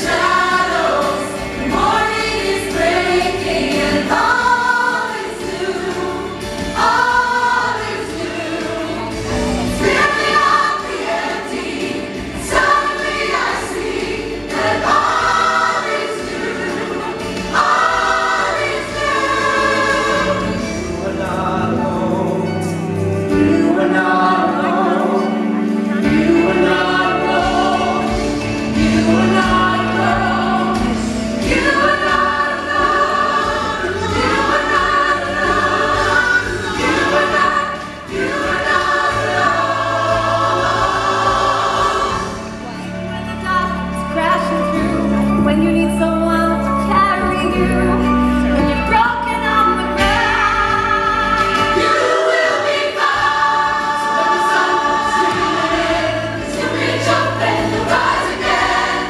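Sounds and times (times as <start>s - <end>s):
ensemble singing in harmony: 0.0s - 59.0s.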